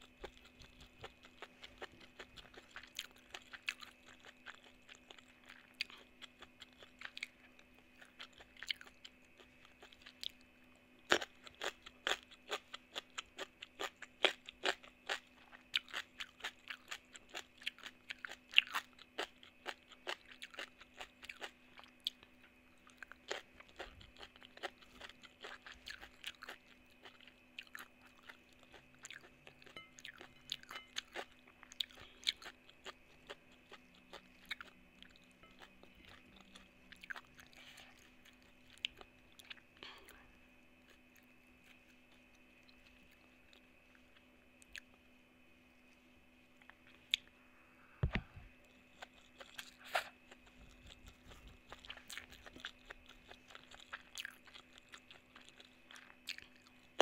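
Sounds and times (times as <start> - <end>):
person chewing crunchy vegetables: 0.0 - 45.0, 48.2 - 57.0.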